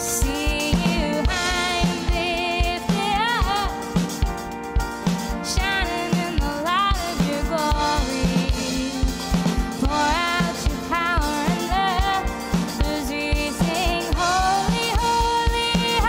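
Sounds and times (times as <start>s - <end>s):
woman singing: 0.0s - 4.1s, 5.4s - 16.0s
keyboard: 0.0s - 16.0s.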